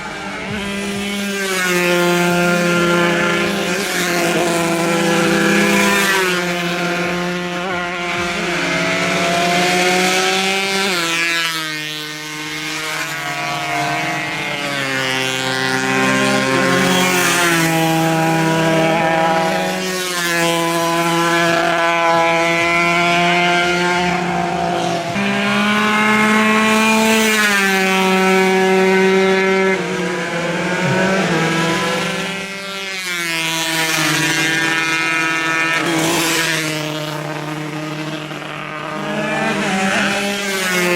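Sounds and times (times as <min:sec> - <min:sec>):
two-stroke racing motorcycles revving: 0:00.0 - 0:40.9.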